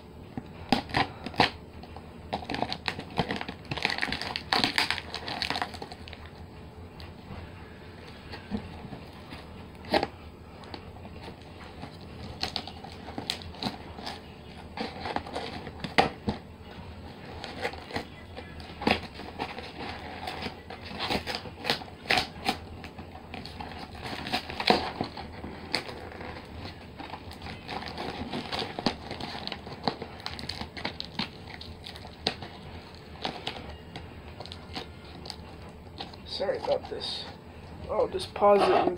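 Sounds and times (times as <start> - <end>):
cardboard box crinkling: 0.6 - 6.4, 8.0 - 16.4, 17.0 - 37.2.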